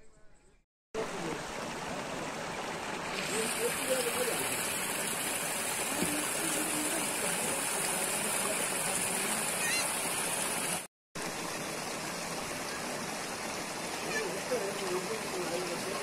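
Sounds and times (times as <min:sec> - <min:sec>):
stream rushing: 0:01.0 - 0:16.0.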